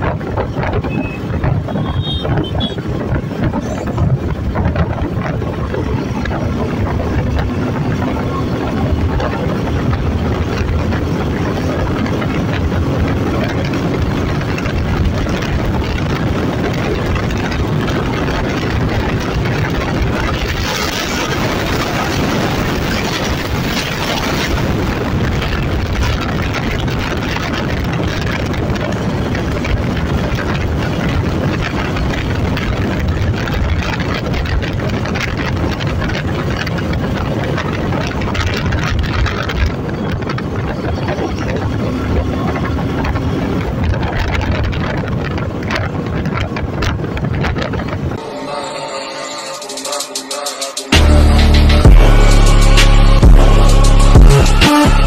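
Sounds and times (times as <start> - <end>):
motorcycle engine running: 0.0 - 48.2, 50.9 - 55.0
wind rush over microphone: 0.0 - 48.4.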